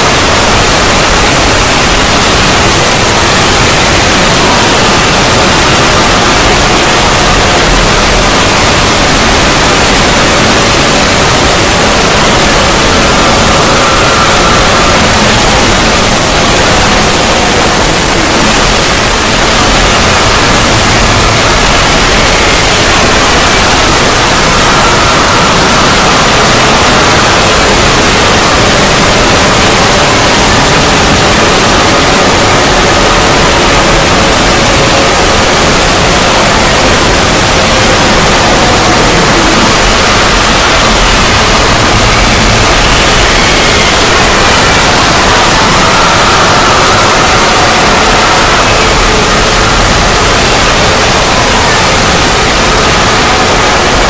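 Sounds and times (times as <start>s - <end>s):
faint drifting tones: 0.0s - 54.0s
loud static noise: 0.0s - 54.0s.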